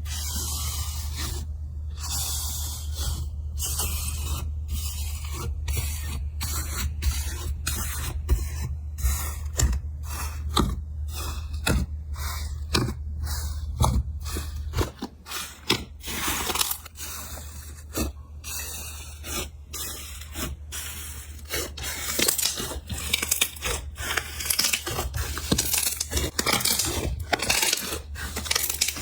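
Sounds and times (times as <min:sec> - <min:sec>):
slime scraping by hand: 0:00.0 - 0:29.0.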